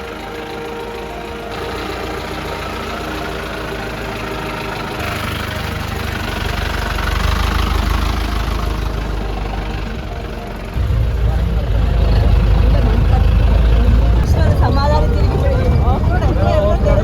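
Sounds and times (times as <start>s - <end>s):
jeep engine running: 0.0s - 17.0s.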